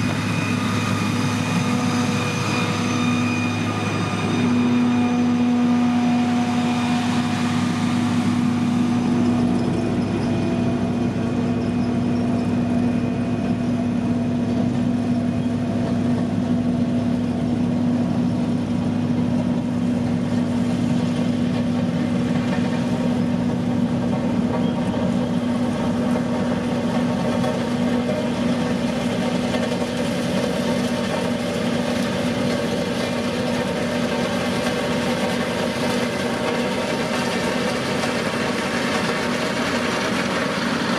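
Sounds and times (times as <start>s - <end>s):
construction machine engine humming: 0.0s - 40.9s.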